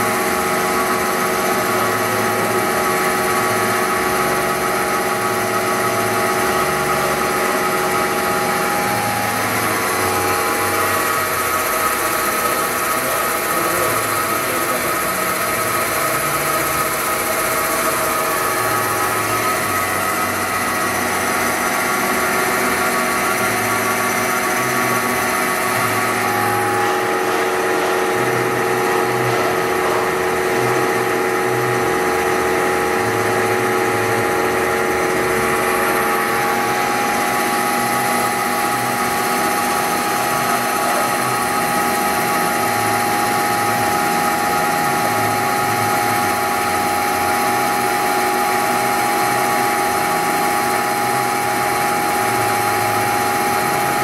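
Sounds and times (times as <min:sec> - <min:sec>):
machining center mechanical whine: 0:00.0 - 0:54.0.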